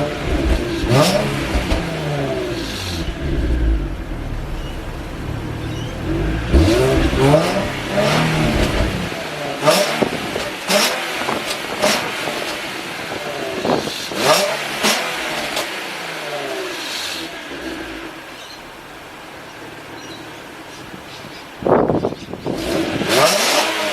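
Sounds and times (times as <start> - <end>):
car engine revving: 0.0 - 20.9, 22.4 - 23.9.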